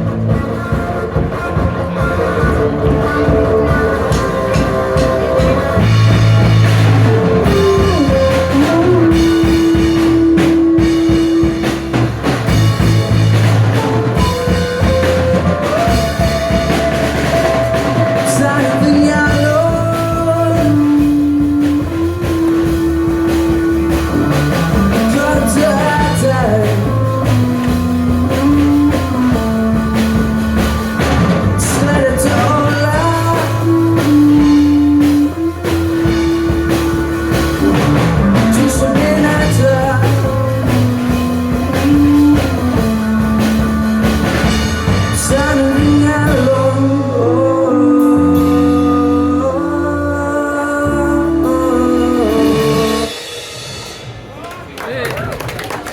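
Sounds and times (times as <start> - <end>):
person singing long held notes: 0.0 - 53.5
guitar: 0.0 - 54.3
live rock band playing: 0.0 - 54.6
drum kit: 0.0 - 55.9.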